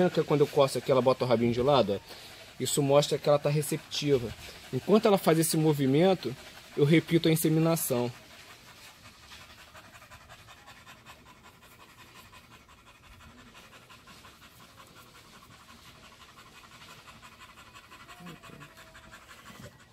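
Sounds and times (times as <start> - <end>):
dog panting: 0.0 - 19.9.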